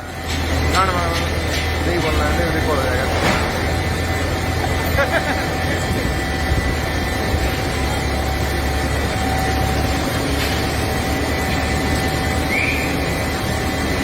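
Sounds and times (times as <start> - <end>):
heavy diesel engine running: 0.0 - 14.0
thin steady whine: 0.0 - 14.0.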